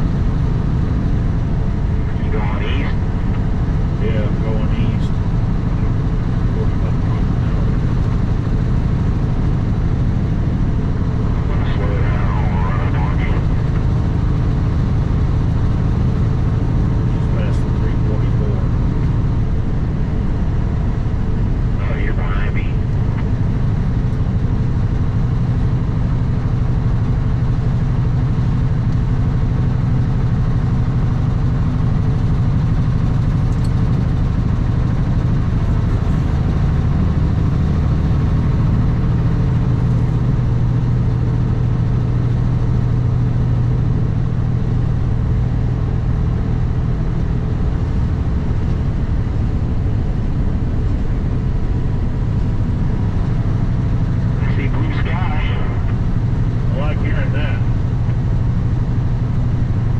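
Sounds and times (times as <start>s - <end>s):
road and wind noise: 0.0s - 59.9s
truck diesel engine droning: 0.0s - 59.9s.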